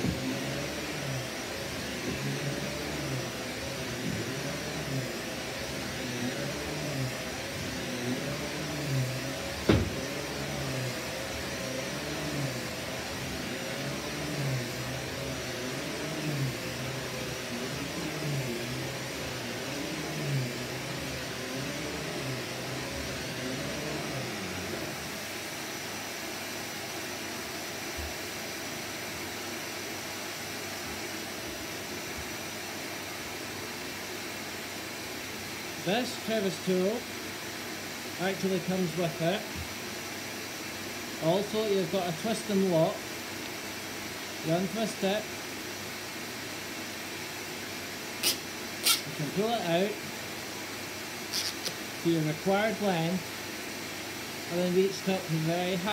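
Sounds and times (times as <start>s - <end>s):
upright vacuum cleaner on carpet: 0.0s - 55.9s.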